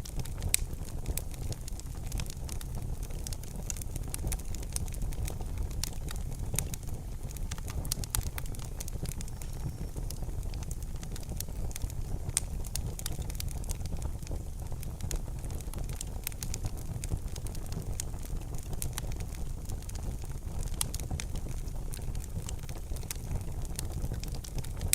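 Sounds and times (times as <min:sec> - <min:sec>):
fire crackling and popping: 0:00.0 - 0:24.9
fire rumbling: 0:00.0 - 0:24.9.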